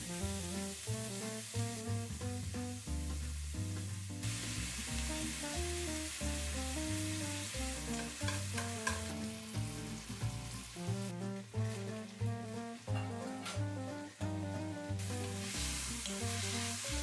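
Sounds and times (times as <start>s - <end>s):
food sizzling in a frying pan: 0.0s - 14.2s, 14.9s - 17.0s
background music with bass: 0.0s - 17.0s.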